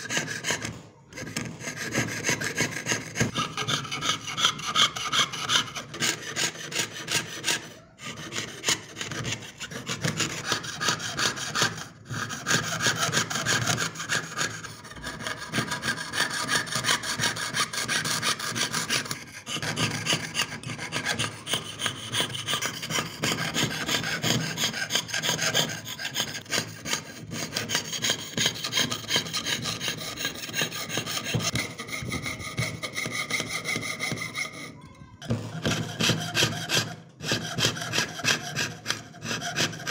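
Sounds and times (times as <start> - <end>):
saw blade cutting metal sheet: 0.0 - 39.9.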